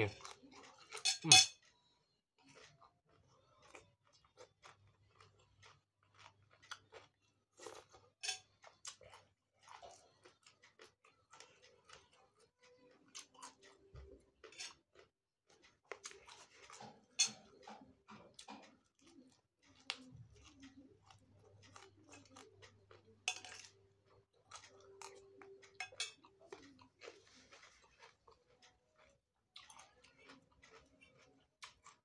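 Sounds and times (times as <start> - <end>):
man chewing crunchy leaves: 0.0 - 1.7, 2.4 - 32.0.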